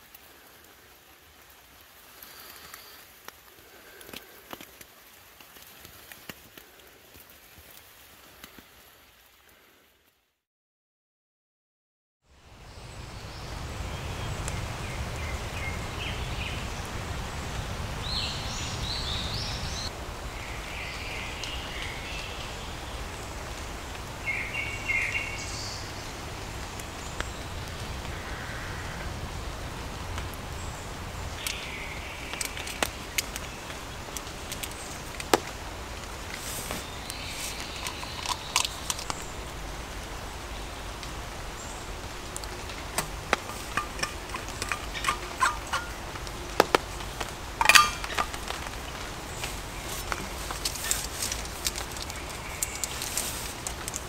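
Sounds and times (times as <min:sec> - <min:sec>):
wild birds chirping: 0:00.0 - 0:08.5, 0:12.6 - 0:54.0
steady outdoor hiss: 0:00.0 - 0:10.3, 0:12.3 - 0:54.0.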